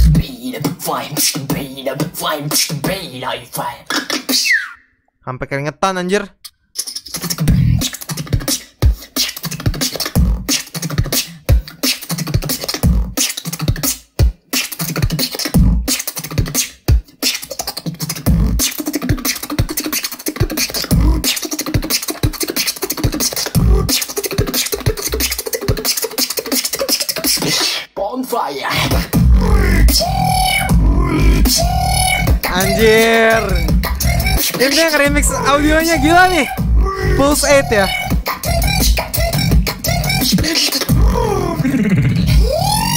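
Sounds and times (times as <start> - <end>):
person beatboxing: 0.0 - 4.3, 6.8 - 42.9.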